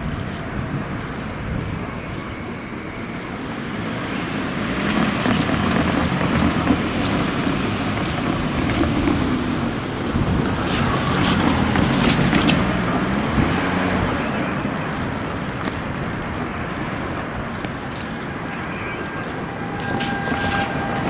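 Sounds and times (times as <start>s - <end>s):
train moving slowly: 0.0s - 21.0s.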